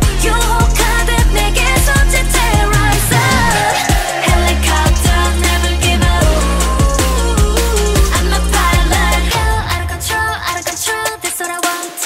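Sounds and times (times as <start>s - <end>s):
heavy bass line: 0.0s - 10.6s
person singing: 0.0s - 12.0s
pop dance track: 0.0s - 12.0s
steady drum beat: 0.0s - 12.0s.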